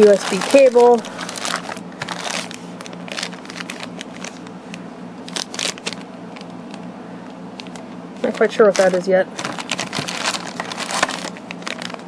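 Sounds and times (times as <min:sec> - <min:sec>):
plastic bags crinkling: 0:00.0 - 0:04.5, 0:05.2 - 0:06.8, 0:07.6 - 0:12.0
air conditioner hum: 0:00.0 - 0:12.0.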